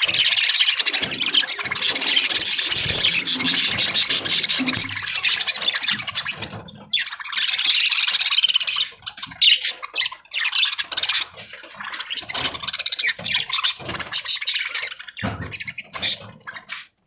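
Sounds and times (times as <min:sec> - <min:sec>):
budgerigars chattering and squawking: 0:00.0 - 0:17.0.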